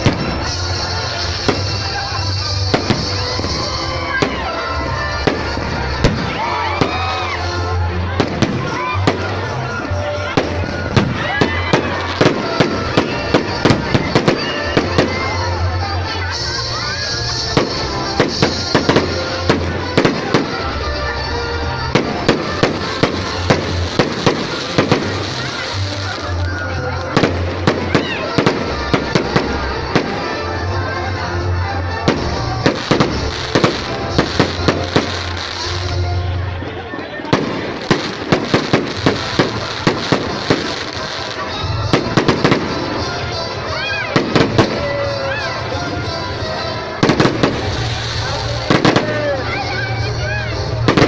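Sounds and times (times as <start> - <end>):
fireworks banging: 0.0 - 30.7, 32.0 - 51.0
background music: 0.0 - 51.0.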